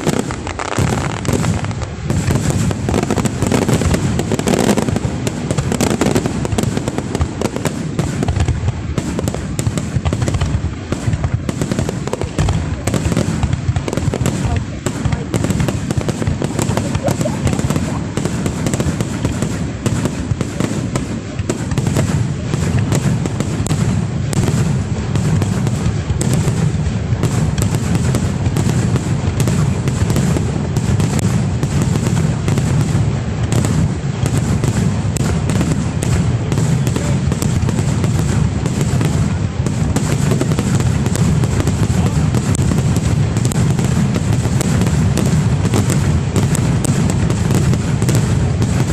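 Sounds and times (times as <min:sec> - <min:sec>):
fireworks booming and crackling: 0:00.0 - 0:48.9.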